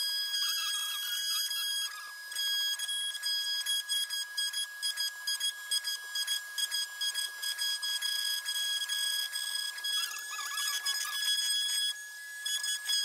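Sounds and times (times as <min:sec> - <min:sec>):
router spindle whine: 0:00.0 - 0:13.0
bit cutting wood pulsing: 0:00.3 - 0:13.0.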